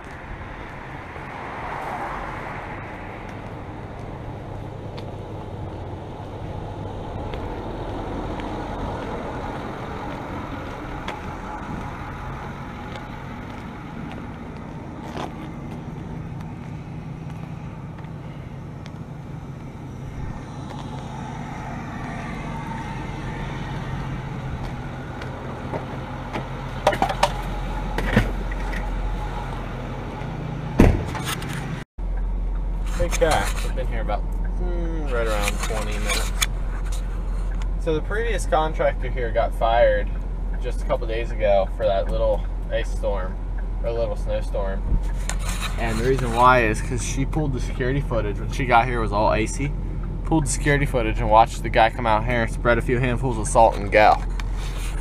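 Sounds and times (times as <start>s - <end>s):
truck engine idling: 2.9s - 55.0s.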